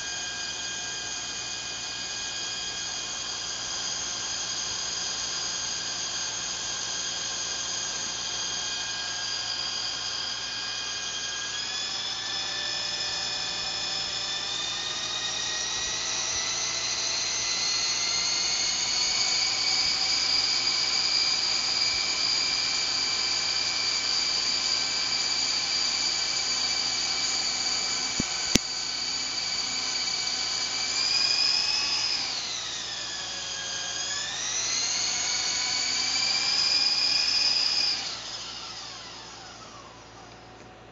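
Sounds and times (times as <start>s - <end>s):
high-pitched motor whining: 0.0s - 40.4s.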